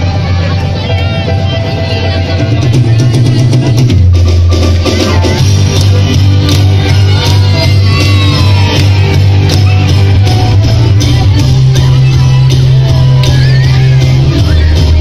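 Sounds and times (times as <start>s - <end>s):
crowd shouting and cheering: 0.0s - 15.0s
loud amplified music with bass: 0.0s - 15.0s.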